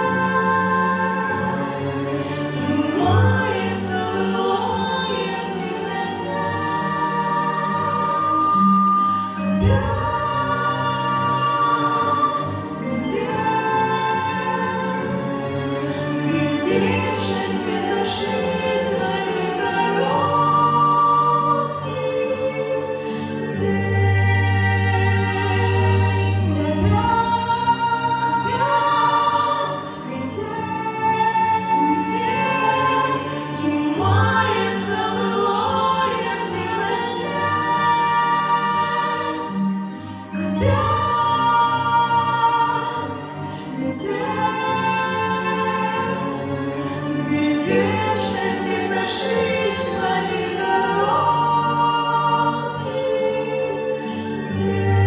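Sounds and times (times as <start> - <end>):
two voices singing in harmony: 0.0 - 55.0.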